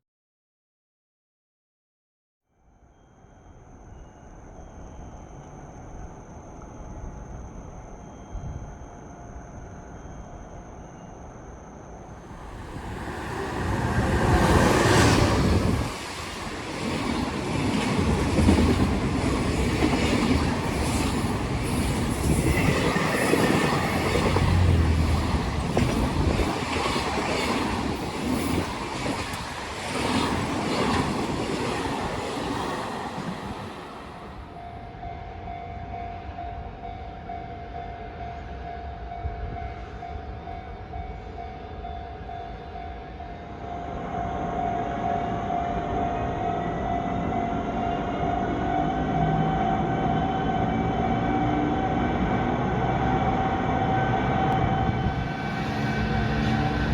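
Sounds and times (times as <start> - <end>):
freight train passing: 3.9 - 56.9.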